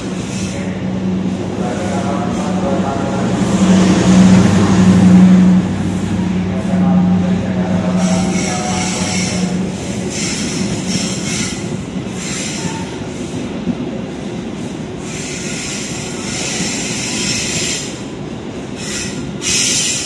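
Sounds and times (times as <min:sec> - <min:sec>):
train wheel rumble: 0:00.0 - 0:20.0.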